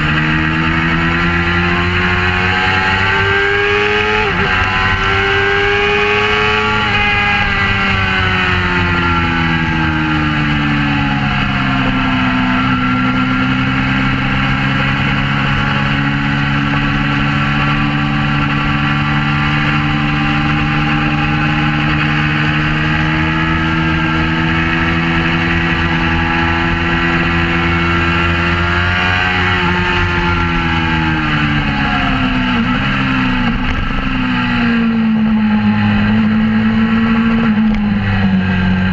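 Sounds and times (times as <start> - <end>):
motorcycle engine at speed: 0.0 - 38.9.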